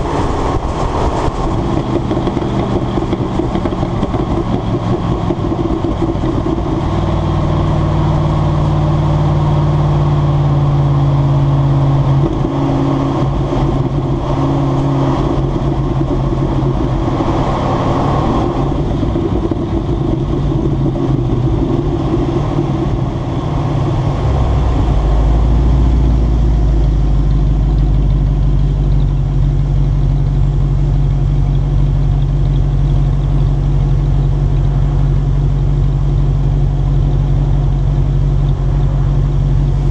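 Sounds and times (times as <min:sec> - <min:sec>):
road and wind noise: 0:00.0 - 0:39.9
truck engine exhaust: 0:00.0 - 0:39.9.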